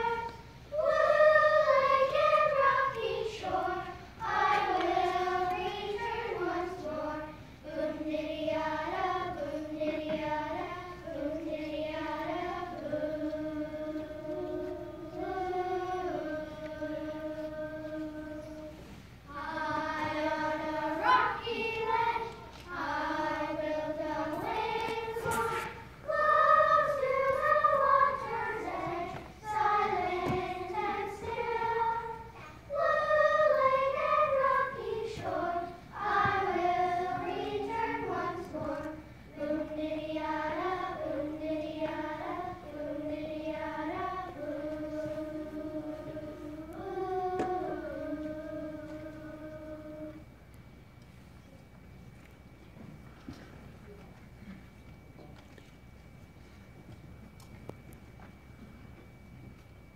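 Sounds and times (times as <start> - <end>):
children's choir singing: 0.0 - 50.5.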